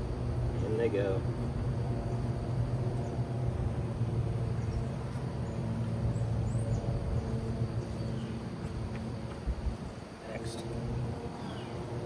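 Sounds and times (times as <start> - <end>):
bees droning hum: 0.0 - 12.0.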